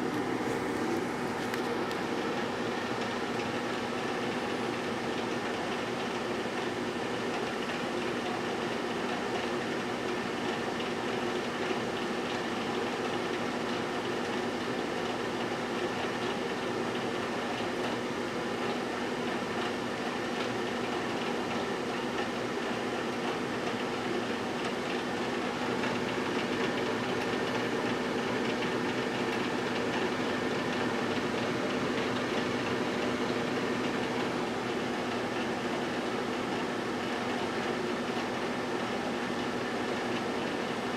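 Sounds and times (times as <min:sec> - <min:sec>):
microwave oven humming: 0:00.0 - 0:40.9.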